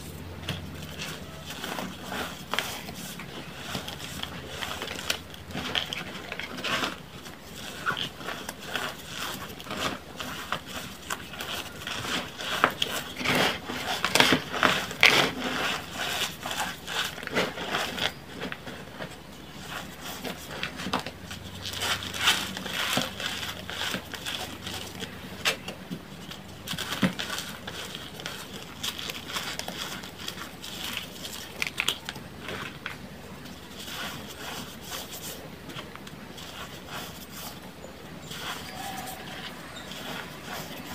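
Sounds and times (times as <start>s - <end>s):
hands crushing chalk: 0.4s - 40.9s.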